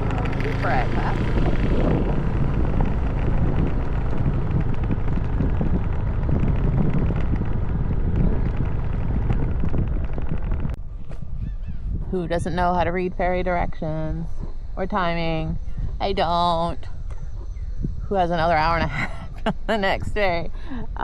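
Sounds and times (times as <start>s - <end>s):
vehicle engine rumble: 0.0s - 21.0s
wind buffeting microphone: 0.0s - 21.0s.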